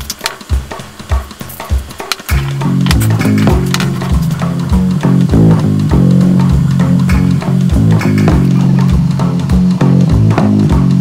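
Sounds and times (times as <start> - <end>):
guitar music over steady beat: 0.0 - 11.0.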